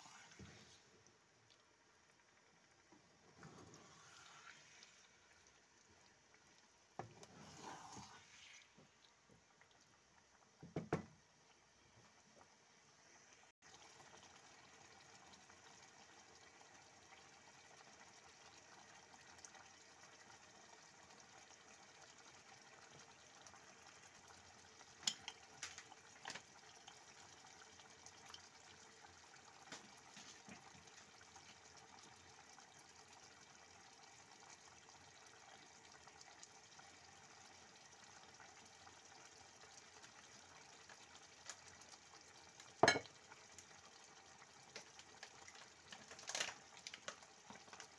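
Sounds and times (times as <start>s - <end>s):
stew simmering in a pan: 0.0s - 47.9s.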